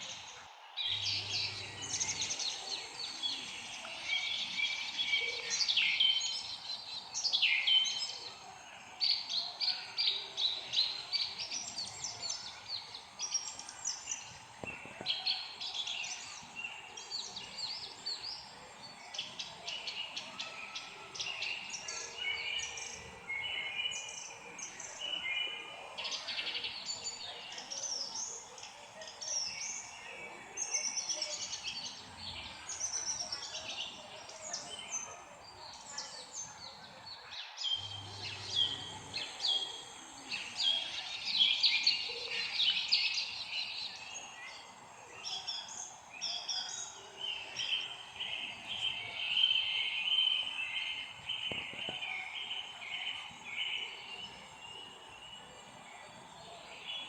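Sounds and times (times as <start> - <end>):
faint background hiss: 0.0 - 57.0
songbirds chirping and singing: 0.0 - 57.0.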